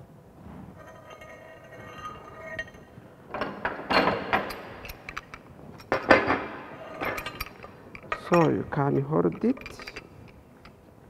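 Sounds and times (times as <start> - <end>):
metal clinks and scrapes on pipe: 0.8 - 10.8.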